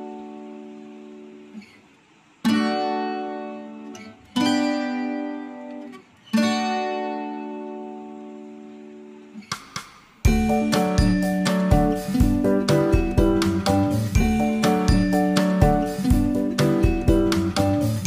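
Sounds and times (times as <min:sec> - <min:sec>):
strummed guitar chords: 0:00.0 - 0:18.0.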